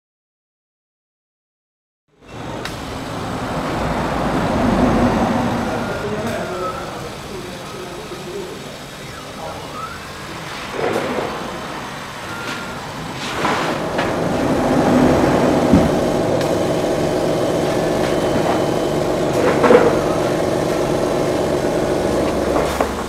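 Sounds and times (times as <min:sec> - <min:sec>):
laser cutter machine hum: 0:02.2 - 0:23.0.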